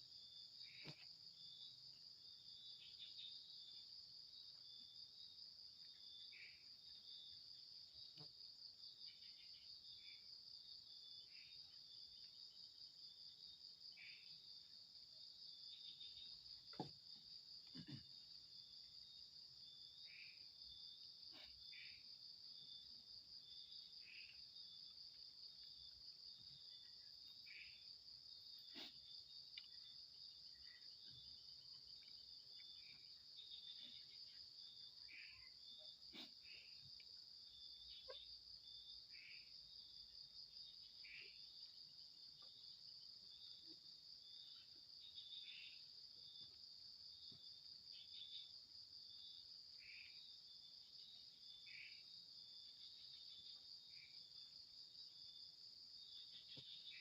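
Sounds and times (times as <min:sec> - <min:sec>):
crickets trilling: 0:00.0 - 0:57.0
insect chirps: 0:00.0 - 0:57.0.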